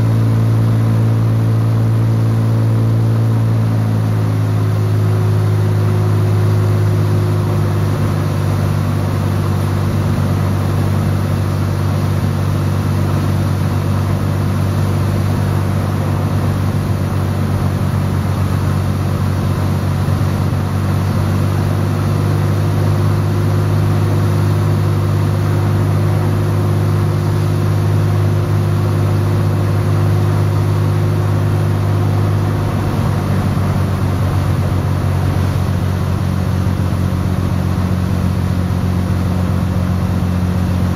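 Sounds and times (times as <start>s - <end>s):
propeller aircraft engine droning: 0.0s - 40.9s.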